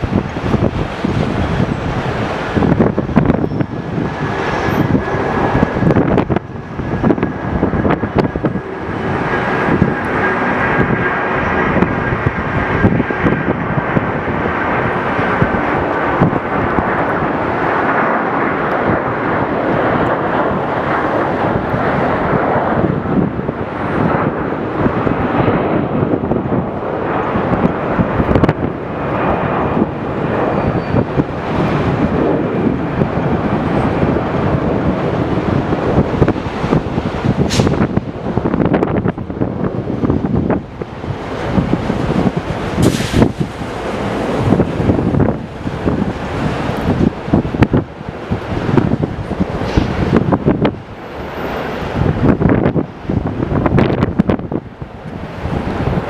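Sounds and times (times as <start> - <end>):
jet engines whining: 0.0 - 56.0
wind buffeting microphone: 0.0 - 56.0.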